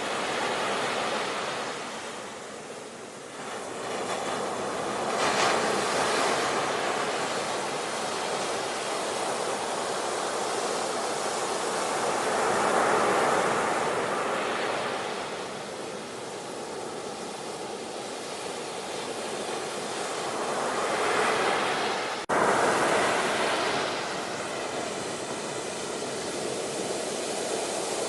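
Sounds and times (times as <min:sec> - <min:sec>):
ocean waves washing in: 0:00.0 - 0:28.0.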